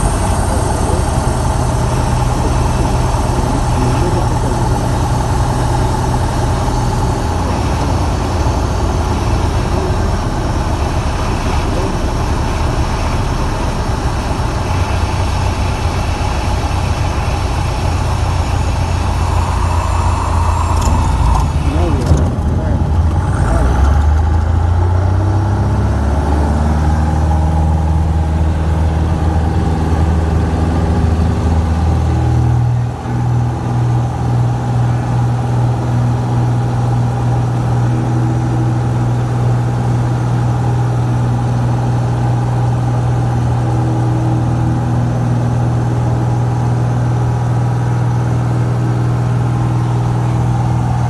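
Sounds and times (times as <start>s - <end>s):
propeller plane engine running: 0.0s - 51.0s.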